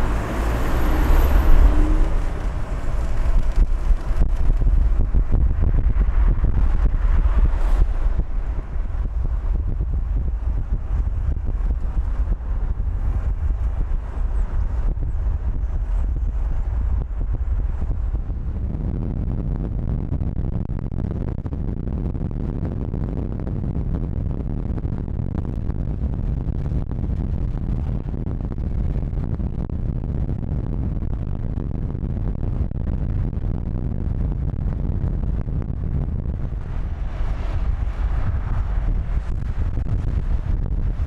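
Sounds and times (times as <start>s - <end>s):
car road and wind noise: 0.0s - 41.0s.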